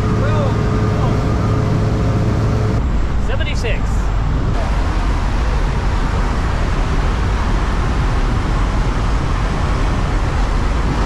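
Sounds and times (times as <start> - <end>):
aircraft engine noise: 0.0 - 11.0
rushing wind: 0.0 - 11.0.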